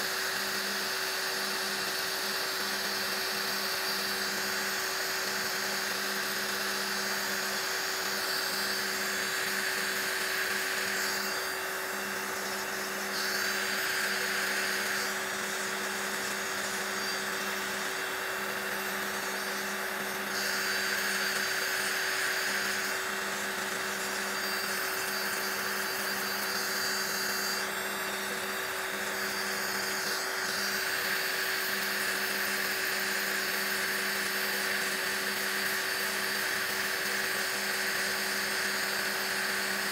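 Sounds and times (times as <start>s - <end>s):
nail drill grinding: 0.0s - 39.9s.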